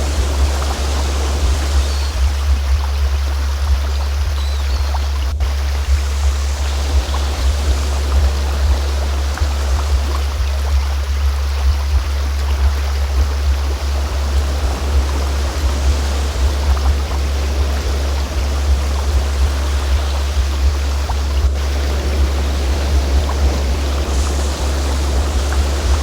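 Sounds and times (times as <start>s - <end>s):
flowing stream rushing: 0.0s - 3.0s, 3.9s - 11.6s, 12.4s - 26.0s
steady deep tone: 0.0s - 26.0s.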